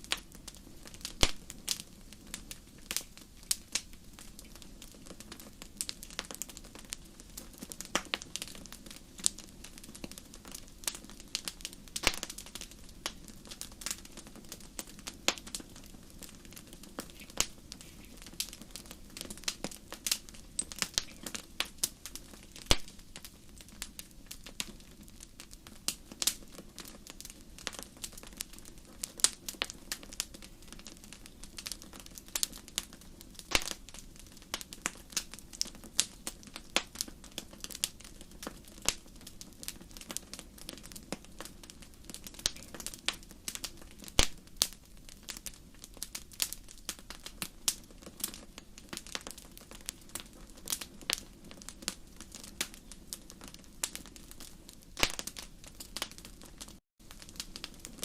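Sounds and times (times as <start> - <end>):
low rumble of burning fire: 0.0 - 58.0
wood fire crackling: 0.0 - 58.0.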